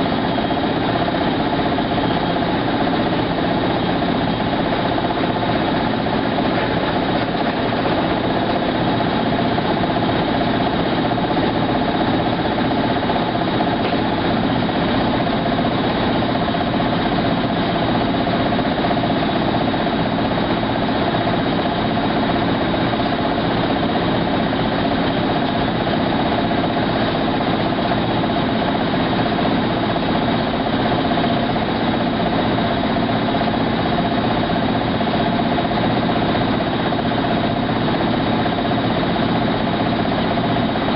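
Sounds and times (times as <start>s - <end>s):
washer mechanical hum: 0.0s - 40.9s.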